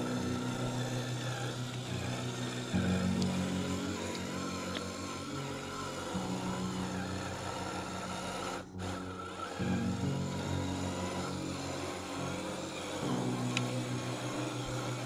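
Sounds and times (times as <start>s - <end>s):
simulated diesel engine sound: 0.0s - 15.0s.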